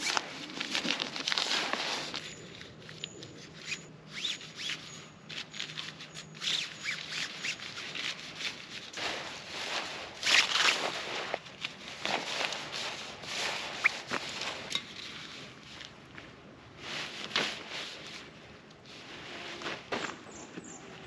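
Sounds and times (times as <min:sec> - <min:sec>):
rustling and scraping: 0:00.0 - 0:21.0.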